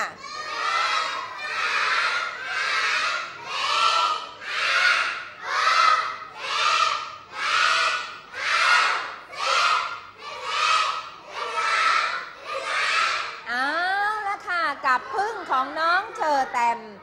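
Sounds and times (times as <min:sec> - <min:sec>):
children counting aloud together: 0:00.0 - 0:13.5, 0:14.7 - 0:17.0.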